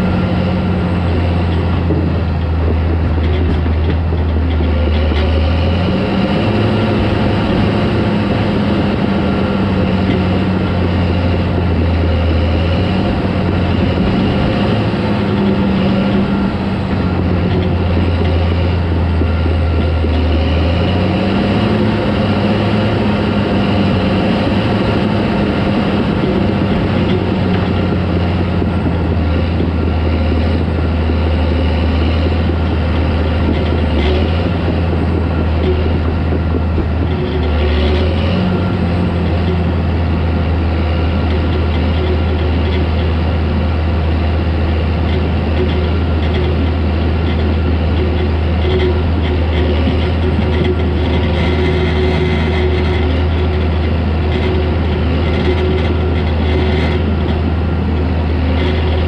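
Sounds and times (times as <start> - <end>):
crawler tractor diesel engine: 0.0 - 59.0.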